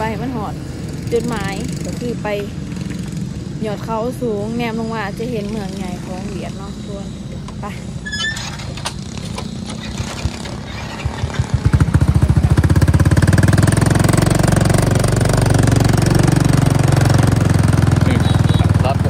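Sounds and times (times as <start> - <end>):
motorbike engine: 0.0 - 19.0.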